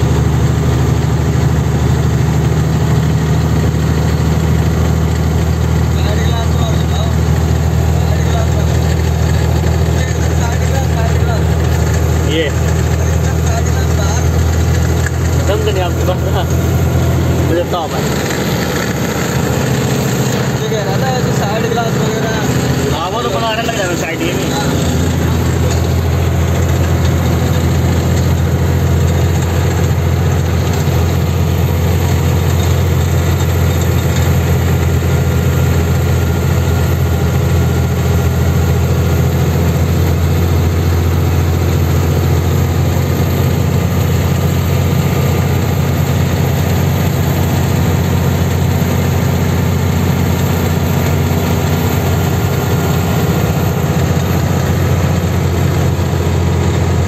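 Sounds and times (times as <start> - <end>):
diesel truck engine droning: 0.0 - 57.0.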